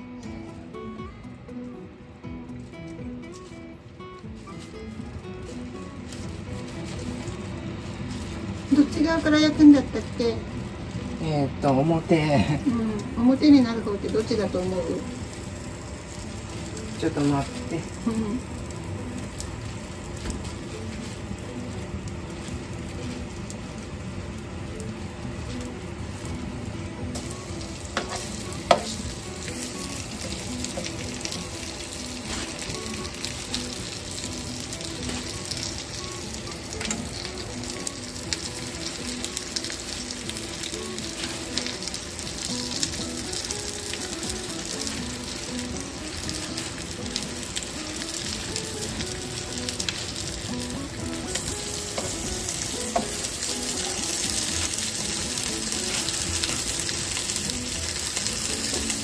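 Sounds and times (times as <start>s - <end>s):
fish sizzling in a pan: 0.0s - 59.0s.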